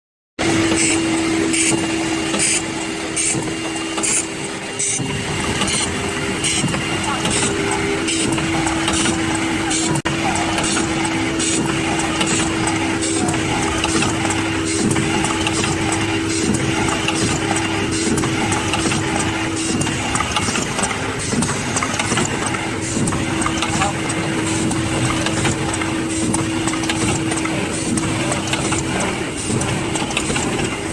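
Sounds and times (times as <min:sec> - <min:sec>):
machine humming: 0:00.4 - 0:30.9.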